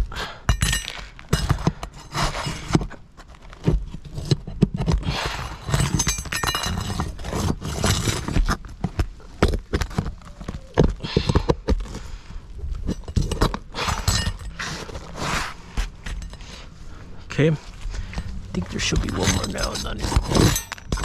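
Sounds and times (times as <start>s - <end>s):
scraping on shingles: 0.8s - 21.0s.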